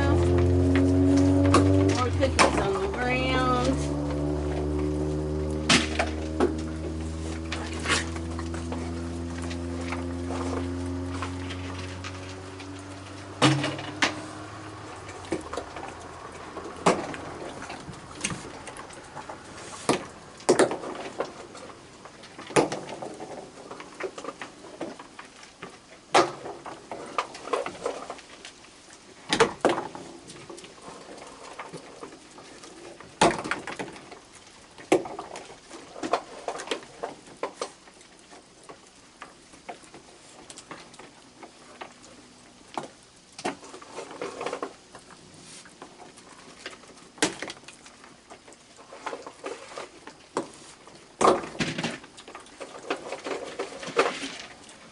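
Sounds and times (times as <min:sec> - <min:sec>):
raccoons eating: 0:00.0 - 0:54.9.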